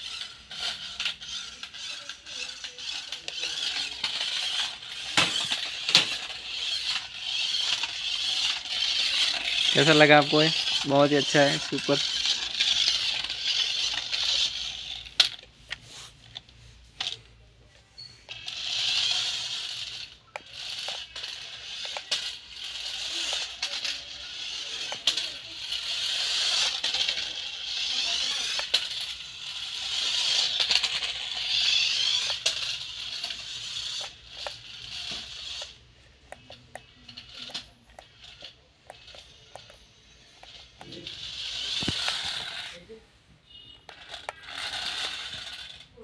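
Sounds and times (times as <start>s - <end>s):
plastic wheels clicking on tiles: 0.0s - 17.4s, 18.2s - 42.9s, 43.5s - 46.0s
toy car electric motors whirring: 0.0s - 46.0s.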